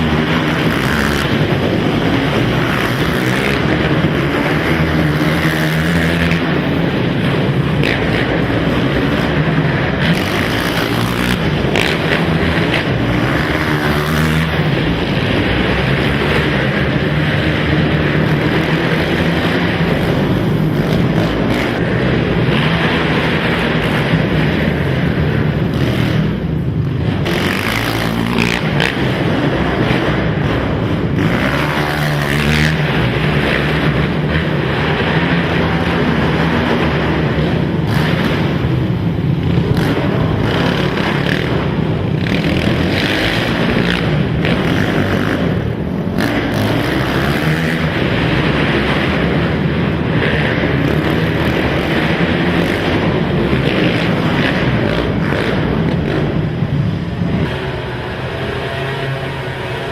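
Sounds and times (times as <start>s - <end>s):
quad engines revving: 0.0s - 59.9s.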